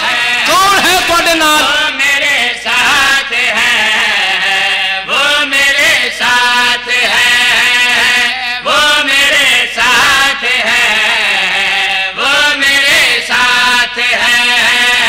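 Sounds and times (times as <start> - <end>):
men chanting into a microphone: 0.0 - 15.0.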